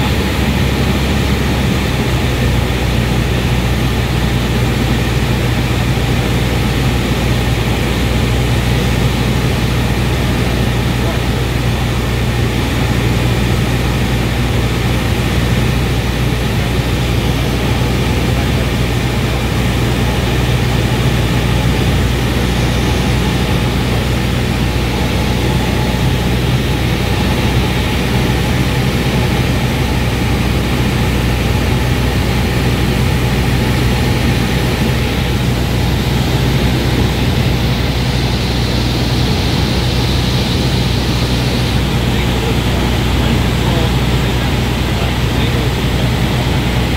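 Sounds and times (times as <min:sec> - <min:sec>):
small plane engine droning: 0:00.0 - 0:46.9.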